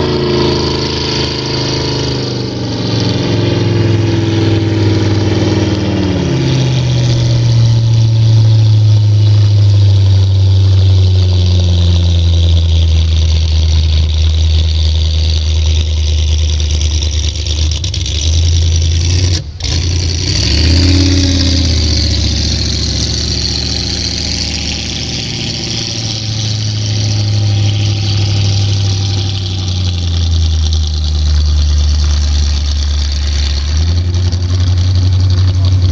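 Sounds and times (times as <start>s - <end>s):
boat engine idling loudly: 0.0s - 35.9s
boat engine revving: 0.0s - 35.9s.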